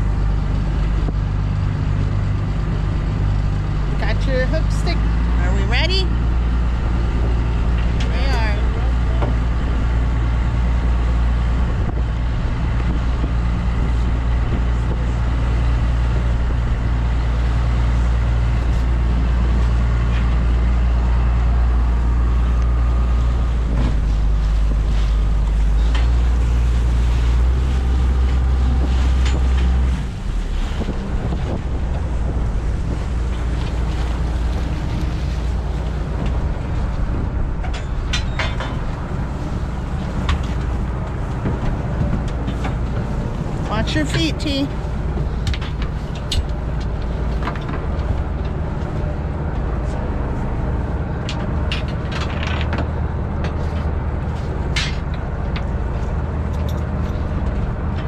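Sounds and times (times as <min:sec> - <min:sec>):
boat engine humming: 0:00.0 - 0:58.0
wind noise on microphone: 0:00.0 - 0:58.0.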